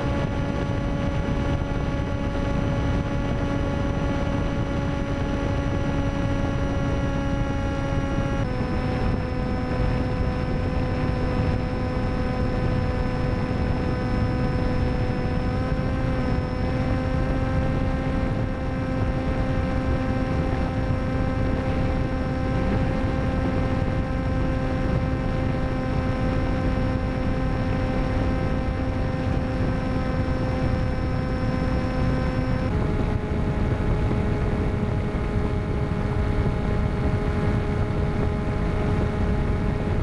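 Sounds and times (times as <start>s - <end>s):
electric motor propeller whine: 0.0s - 40.0s
wind rush on microphone: 0.0s - 40.0s.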